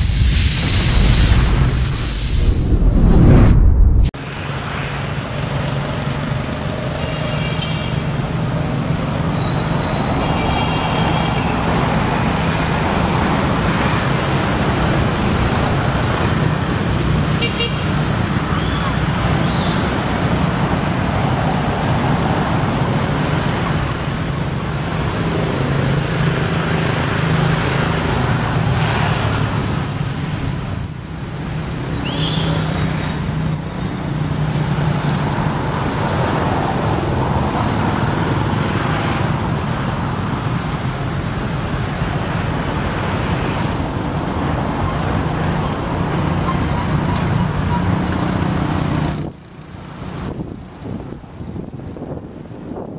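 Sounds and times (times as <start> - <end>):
road traffic with engines running: 4.1 - 52.9.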